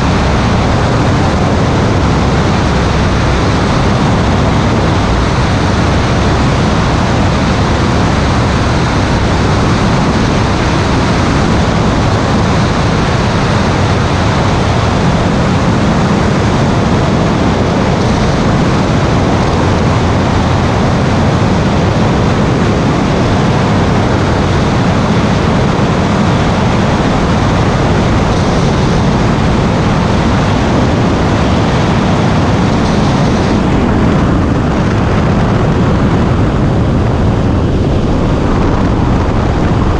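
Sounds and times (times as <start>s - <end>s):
aircraft roar in flight: 0.0s - 39.9s.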